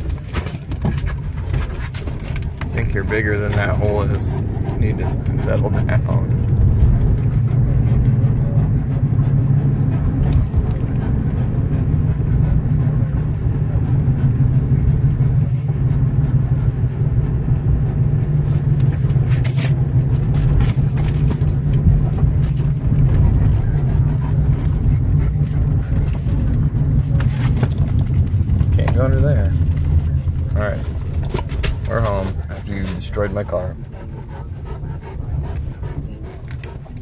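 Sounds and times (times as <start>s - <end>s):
engine and road rumble: 0.0s - 37.0s.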